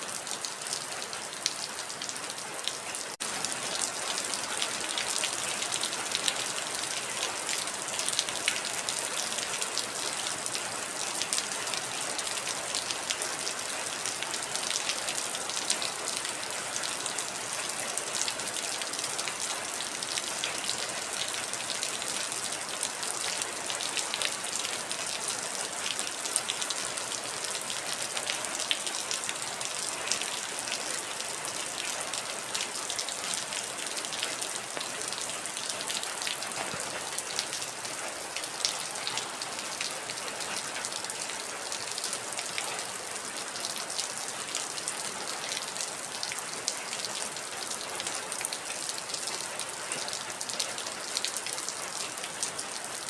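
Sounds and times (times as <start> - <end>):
heavy rain on hard surface: 0.0 - 53.0.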